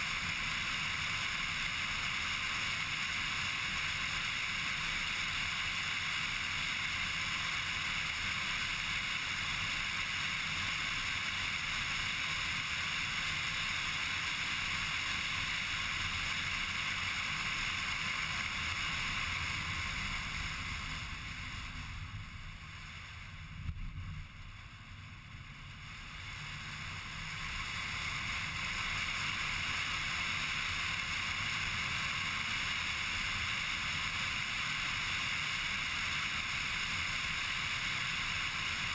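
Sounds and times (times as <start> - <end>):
car tyre and wind noise: 0.0 - 38.9.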